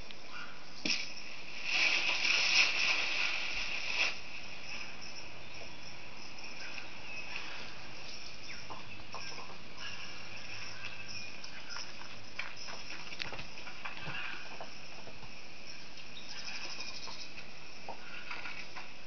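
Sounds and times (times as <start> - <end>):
insect chirring: 0.0 - 18.8.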